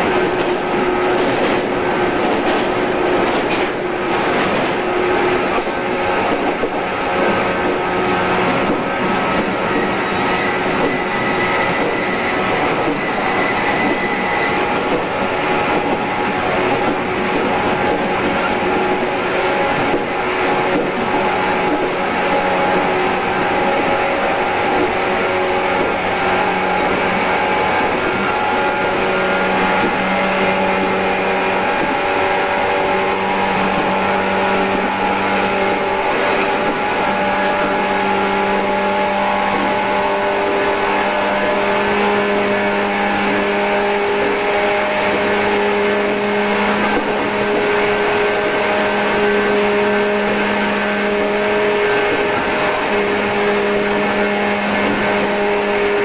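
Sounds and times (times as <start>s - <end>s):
electric train motor whine: 0.0s - 56.0s
wheels rumbling on rails: 0.0s - 56.0s.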